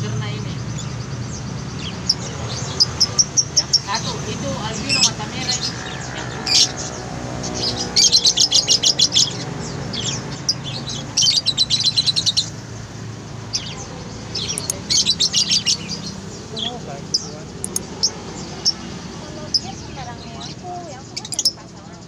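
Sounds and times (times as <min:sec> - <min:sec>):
lovebirds chirping shrilly: 0:00.0 - 0:22.0.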